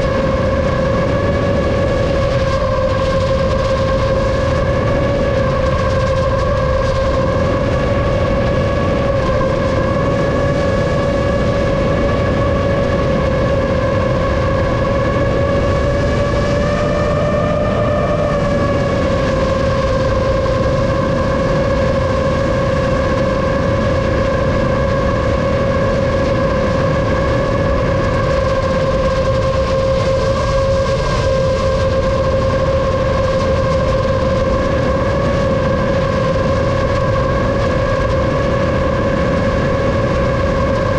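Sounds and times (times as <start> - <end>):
drone motors whining: 0.0 - 40.9
low rushing noise: 0.0 - 40.9.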